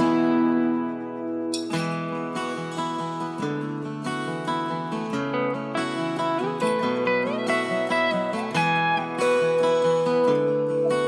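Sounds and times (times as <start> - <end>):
plucked acoustic guitar melody: 0.0 - 11.0.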